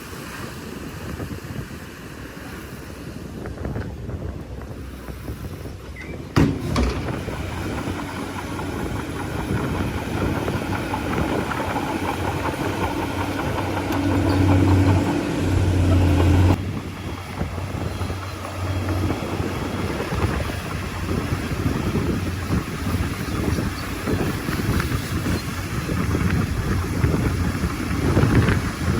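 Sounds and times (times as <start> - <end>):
bulldozer diesel engine droning: 4.3 - 28.9.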